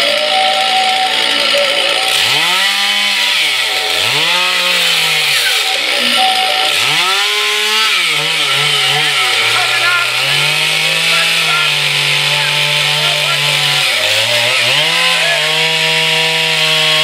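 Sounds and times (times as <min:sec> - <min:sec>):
chainsaw cutting logs: 0:00.0 - 0:17.0.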